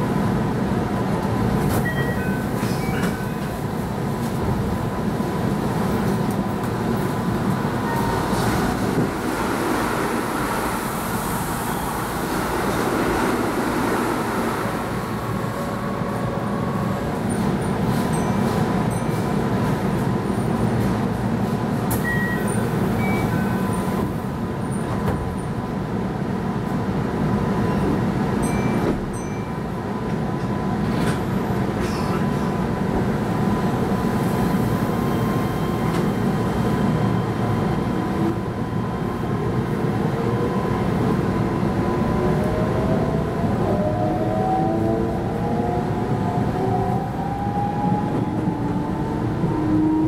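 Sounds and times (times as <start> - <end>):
electric train hum: 0.0 - 50.0.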